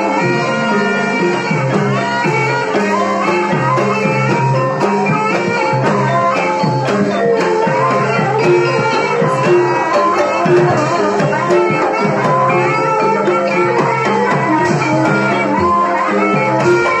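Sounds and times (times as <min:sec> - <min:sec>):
instrumental music with a beat: 0:00.0 - 0:17.0.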